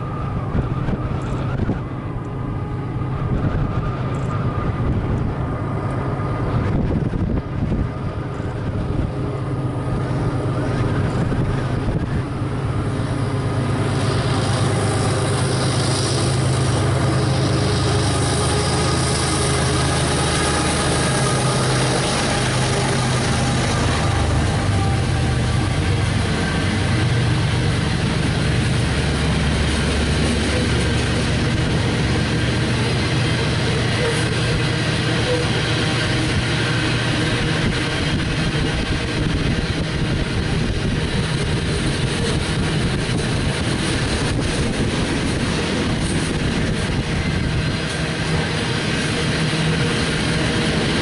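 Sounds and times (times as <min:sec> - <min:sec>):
locomotive engine drone: 0:00.0 - 0:51.0
train wheels on rails: 0:00.0 - 0:51.0.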